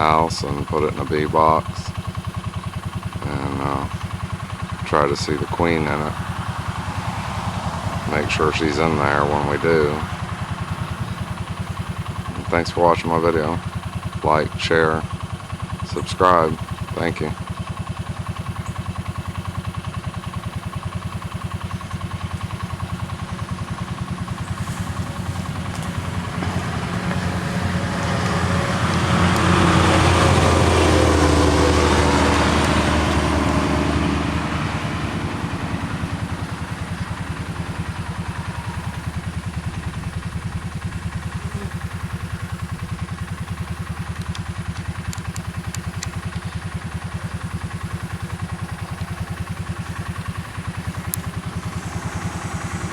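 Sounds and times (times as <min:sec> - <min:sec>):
vehicle engine idling: 0:00.0 - 0:52.9.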